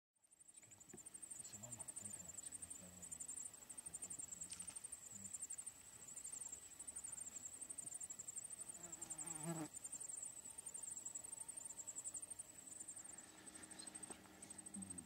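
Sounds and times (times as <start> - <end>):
insects trilling: 0.2 - 15.0.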